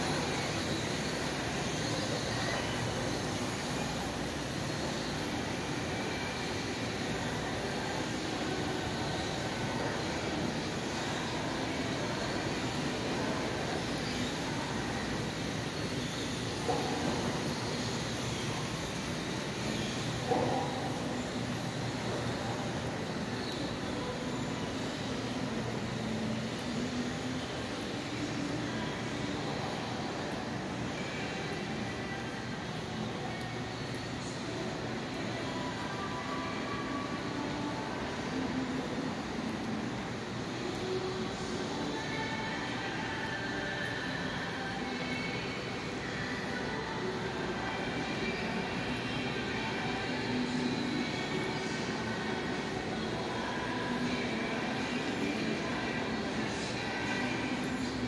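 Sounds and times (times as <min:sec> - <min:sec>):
faint background music: 0:00.0 - 0:58.0
rushing background noise in mall: 0:00.0 - 0:58.0.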